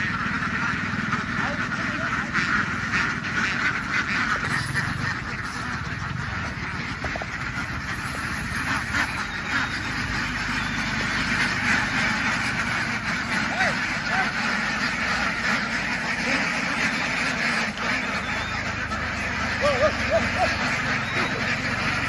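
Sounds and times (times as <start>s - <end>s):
ducks quacking: 0.0s - 22.0s.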